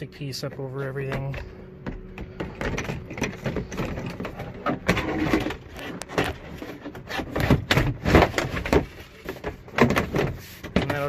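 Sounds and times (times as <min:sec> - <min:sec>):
car trim parts knocking and scraping: 0:00.4 - 0:11.0.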